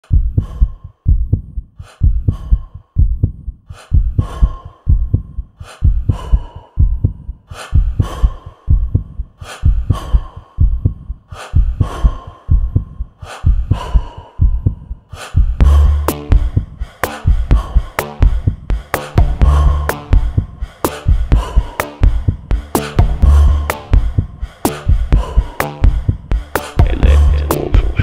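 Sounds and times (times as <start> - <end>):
heartbeat thumps: 0.0 - 28.0.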